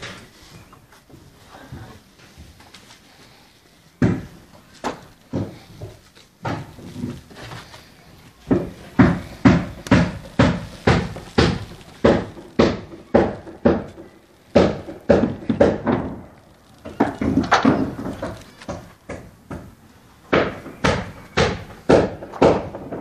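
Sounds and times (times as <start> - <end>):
heavy thuds: 4.0 - 23.0.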